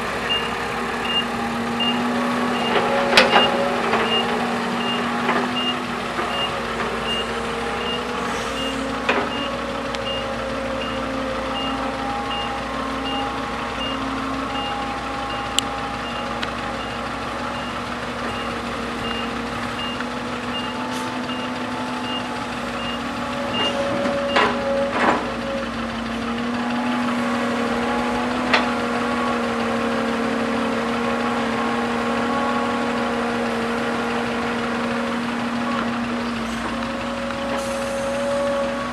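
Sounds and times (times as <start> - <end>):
reversing alarm beeping: 0.0 - 33.5
diesel machinery running: 0.0 - 38.9.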